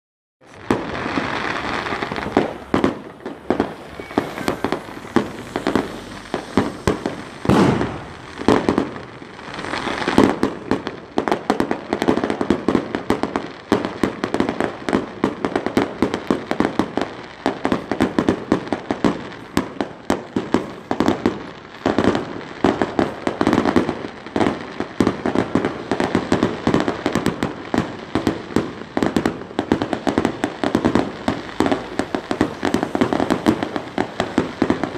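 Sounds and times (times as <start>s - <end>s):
fireworks bangs and crackling: 0.4s - 34.9s
loud firework booms: 0.5s - 34.9s.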